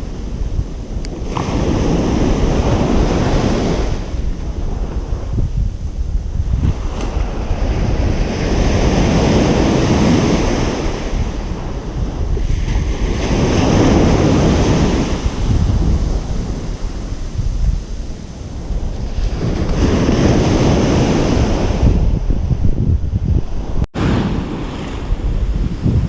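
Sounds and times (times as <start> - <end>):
ocean surf washing onto beach: 0.0 - 22.8, 23.4 - 26.0
wind rumble on microphone: 0.0 - 26.0.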